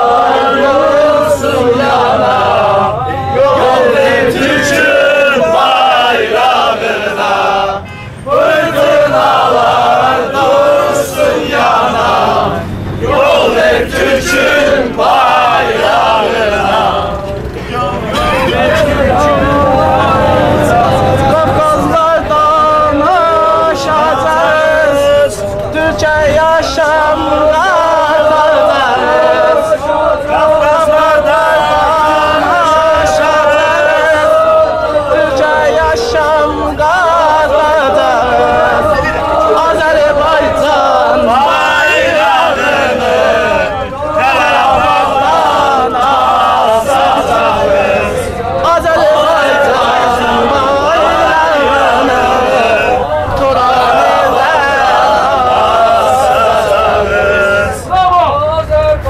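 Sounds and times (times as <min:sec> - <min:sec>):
young men chanting in unison: 0:00.0 - 0:59.0.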